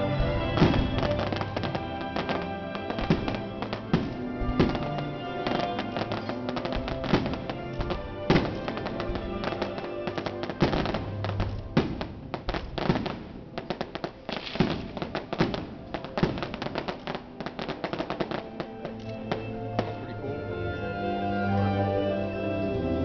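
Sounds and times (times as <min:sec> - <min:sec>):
fireworks bangs and crackles: 0:00.0 - 0:21.0
music: 0:00.0 - 0:23.0.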